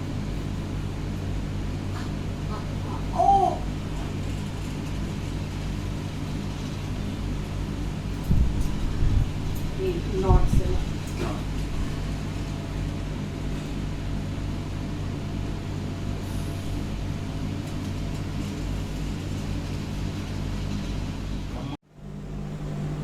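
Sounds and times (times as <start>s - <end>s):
machinery hum with hiss: 0.0s - 23.0s.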